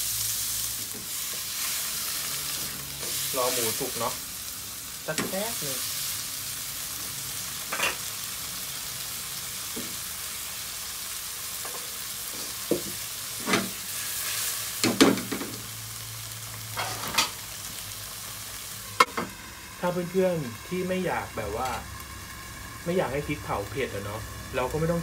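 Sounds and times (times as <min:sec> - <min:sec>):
pork sizzling in oil: 0:00.0 - 0:25.0.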